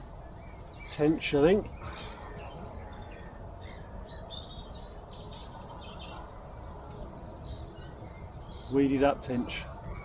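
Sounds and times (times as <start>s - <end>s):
birds chirping and whistling: 0.2s - 9.1s, 9.7s - 10.0s.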